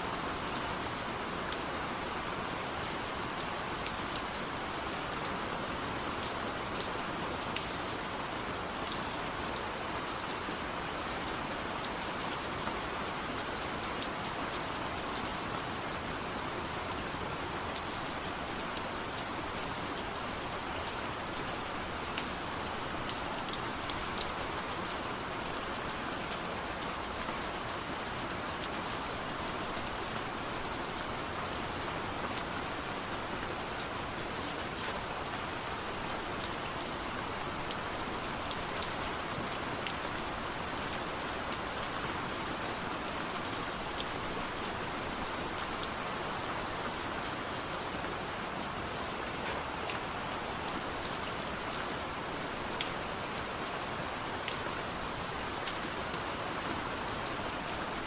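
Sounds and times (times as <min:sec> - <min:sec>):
light rain: 0:00.0 - 0:58.0.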